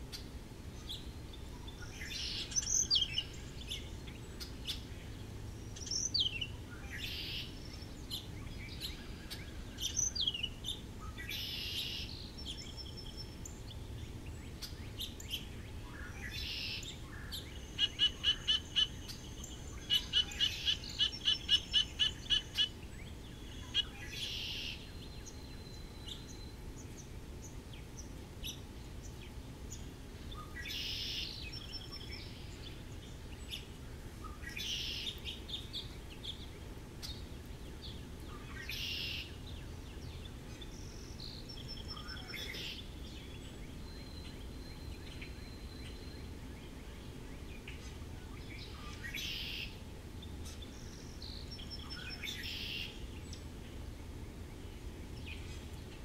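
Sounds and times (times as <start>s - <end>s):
songbirds whistling: 0.8s - 4.9s, 5.7s - 49.8s, 50.4s - 53.5s.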